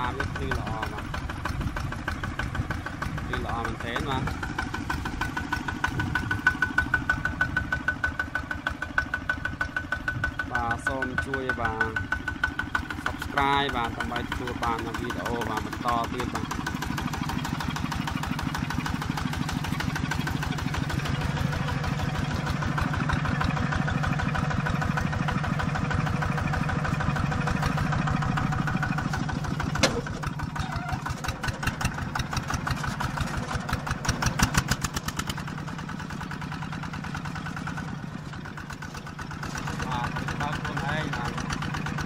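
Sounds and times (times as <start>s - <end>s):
tractor diesel engine chugging: 0.0s - 42.0s.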